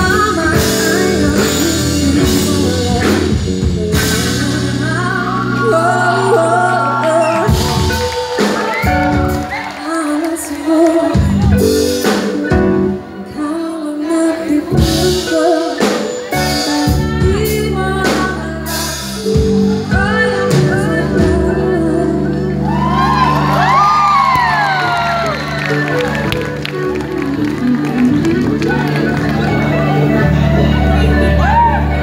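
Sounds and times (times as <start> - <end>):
woman singing: 0.0 - 26.3
live band playing: 0.0 - 32.0.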